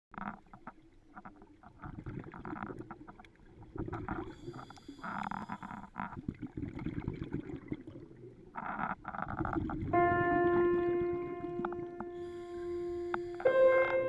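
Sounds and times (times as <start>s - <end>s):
underwater bubbles gurgling: 0.1s - 14.0s.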